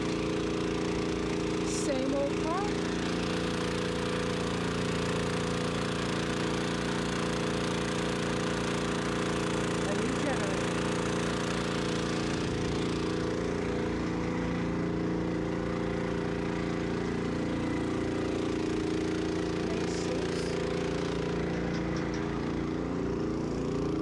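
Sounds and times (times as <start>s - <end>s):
wash plant machine drone: 0.0s - 24.0s.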